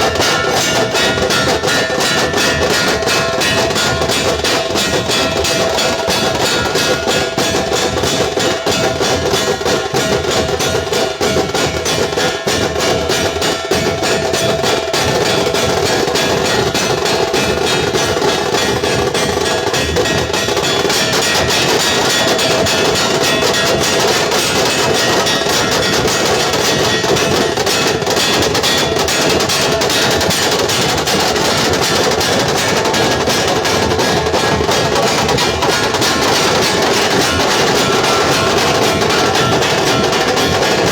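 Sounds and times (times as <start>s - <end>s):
drums beating fast rhythm: 0.0s - 40.9s.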